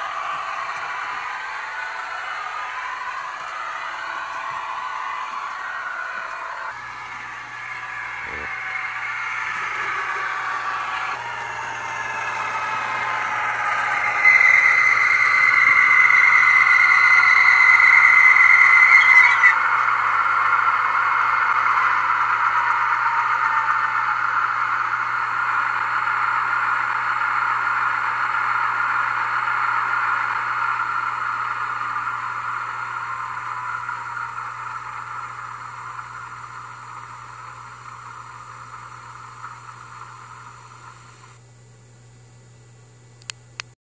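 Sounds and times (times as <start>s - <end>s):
model locomotive engine sound: 0.0s - 43.8s
steady low hum: 0.0s - 43.8s.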